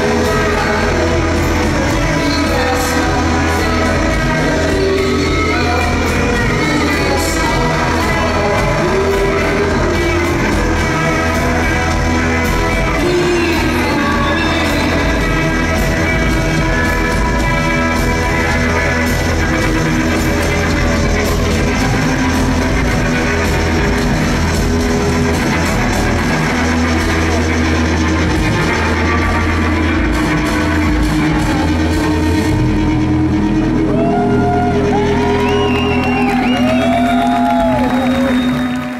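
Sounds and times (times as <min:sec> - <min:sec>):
distorted electric guitars: 0:00.0 - 0:38.9
drums: 0:00.0 - 0:38.9
heavy droning low end: 0:00.0 - 0:38.9.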